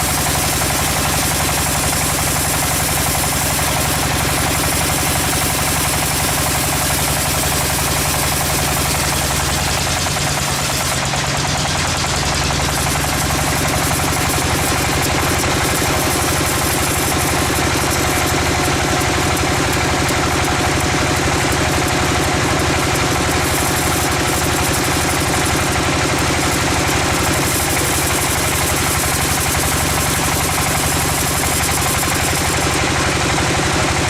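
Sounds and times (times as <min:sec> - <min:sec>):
sawmill motor pulsing: 0:00.0 - 0:34.0.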